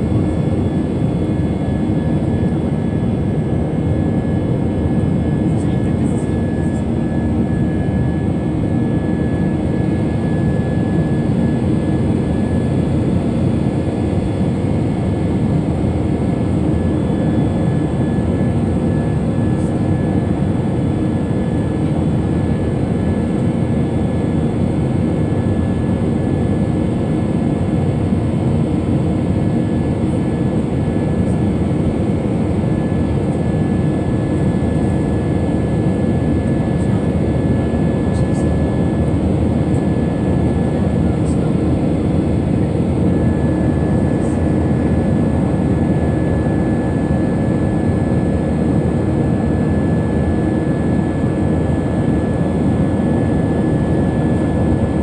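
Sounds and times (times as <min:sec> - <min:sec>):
jet engines in cabin: 0:00.0 - 0:55.0.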